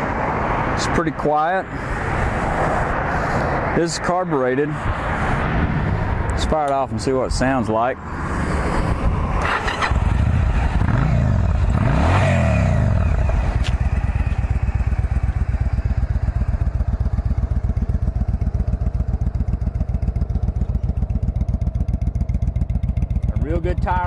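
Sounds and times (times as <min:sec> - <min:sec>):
motorcycle engine revving and idling: 0:01.7 - 0:24.0.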